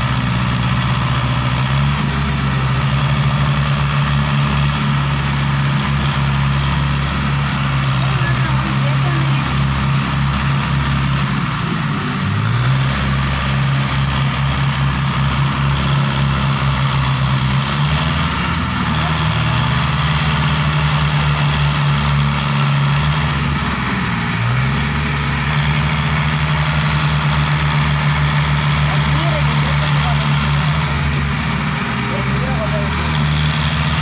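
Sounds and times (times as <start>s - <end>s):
tractor diesel engine revving: 0.0s - 34.0s.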